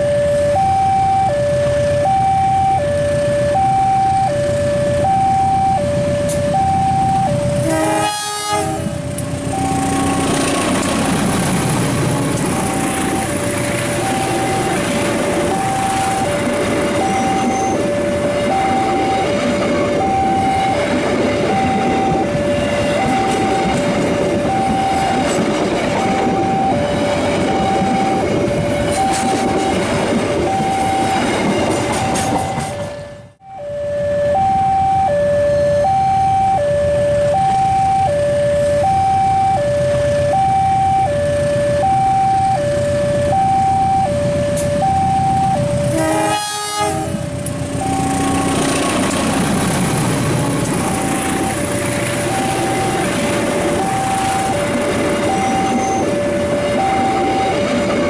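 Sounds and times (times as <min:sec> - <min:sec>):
train rumbling past: 0:00.0 - 0:58.0
two-tone crossing alarm: 0:00.0 - 0:58.0.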